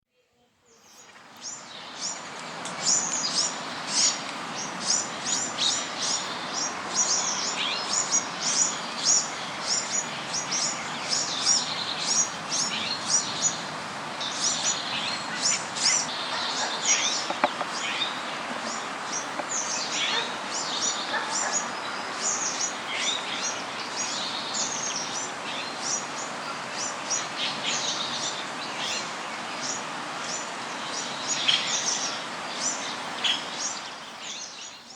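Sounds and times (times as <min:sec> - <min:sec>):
steady background hiss: 0:00.2 - 0:34.9
small birds chirping: 0:00.4 - 0:34.9.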